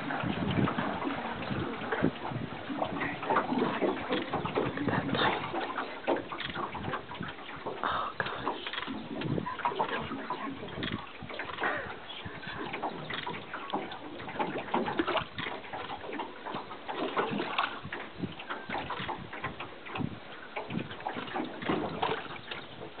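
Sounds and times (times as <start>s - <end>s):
water sloshing and splashing: 0.0s - 23.0s.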